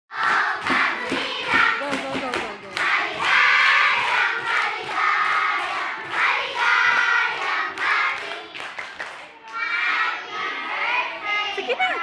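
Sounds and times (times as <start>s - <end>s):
children clapping in rhythm: 0.1s - 10.2s
children singing together: 0.1s - 11.7s.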